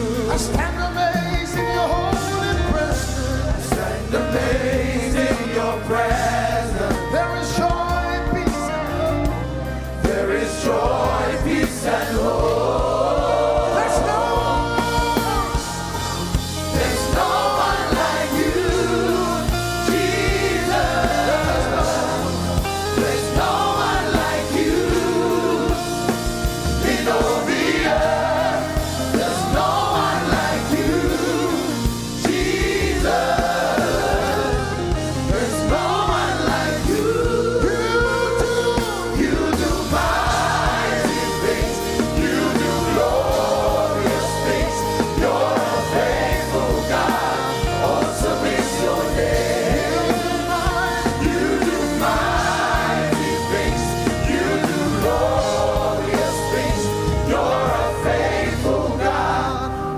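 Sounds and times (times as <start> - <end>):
band accompaniment: 0.0 - 59.9
voices singing: 0.0 - 59.9.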